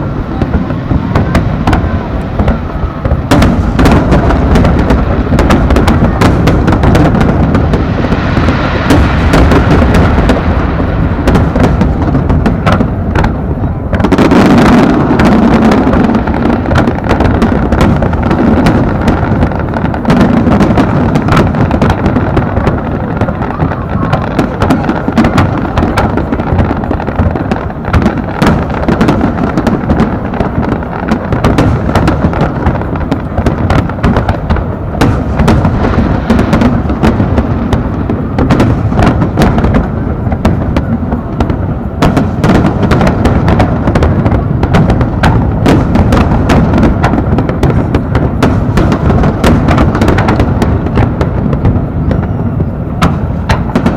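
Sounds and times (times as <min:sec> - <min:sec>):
fireworks rumble: 0:00.0 - 0:53.9
fireworks sharp cracks: 0:00.0 - 0:53.9.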